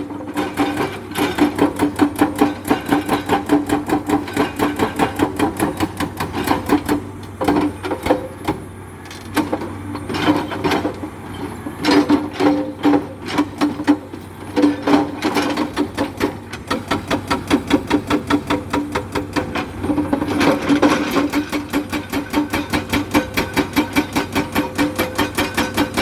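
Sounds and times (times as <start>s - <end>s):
hydraulic rock breaker hammering: 0.0s - 26.0s.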